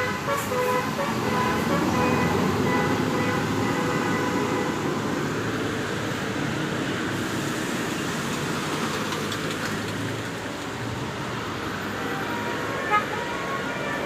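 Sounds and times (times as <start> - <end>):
passing road traffic: 0.0 - 14.0.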